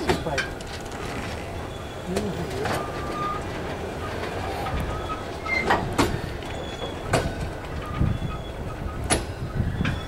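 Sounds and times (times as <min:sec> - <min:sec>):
clacks over rail joints: 0:00.0 - 0:10.0
steel wheels rumbling on rails: 0:00.0 - 0:10.0
faint high wheel squeals: 0:00.1 - 0:10.0.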